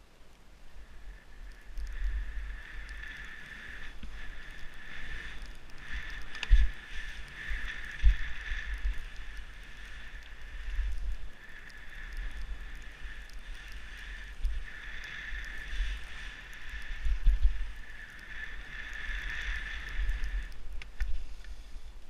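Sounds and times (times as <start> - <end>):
skis hissing on snow: 0.7 - 20.5, 21.1 - 22.0
wind buffeting microphone: 0.9 - 21.4.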